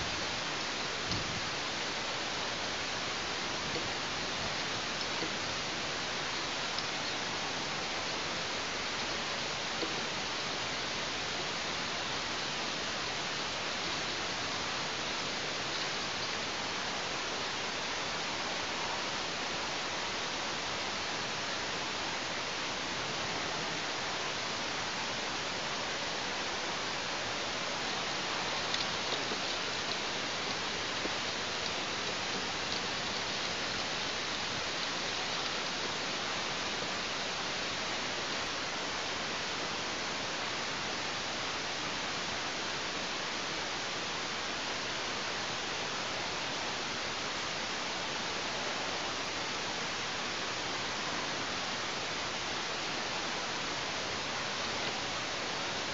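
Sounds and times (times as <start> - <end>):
steady background hiss: 0.0 - 55.9.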